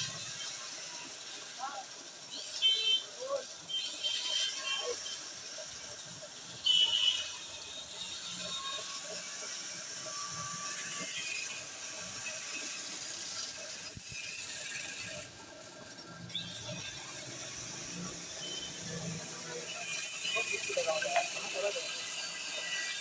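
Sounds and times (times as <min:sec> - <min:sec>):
lathe cutting metal rod: 0:00.0 - 0:23.0.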